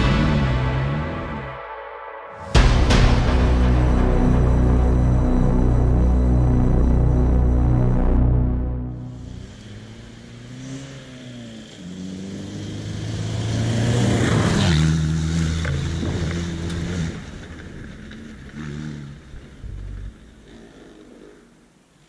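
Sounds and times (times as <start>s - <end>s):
rally car engine revving: 0.0s - 1.6s, 2.6s - 21.6s.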